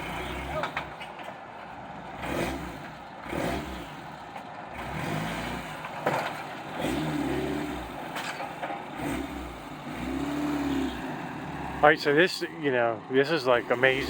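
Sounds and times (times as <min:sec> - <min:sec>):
off-road vehicle engine revving: 0:00.0 - 0:01.1, 0:02.0 - 0:14.0.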